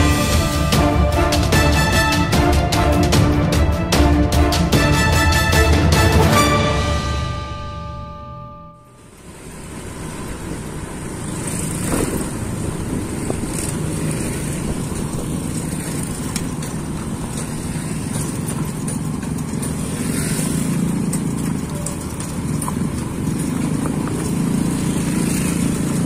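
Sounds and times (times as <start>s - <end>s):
motorcycles passing: 0.0s - 26.0s
road noise: 0.0s - 26.0s.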